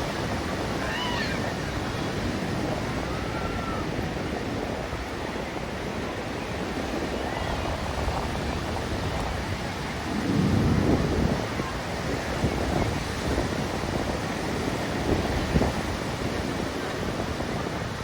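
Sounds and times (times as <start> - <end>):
ocean surf on a beach: 0.0 - 18.0.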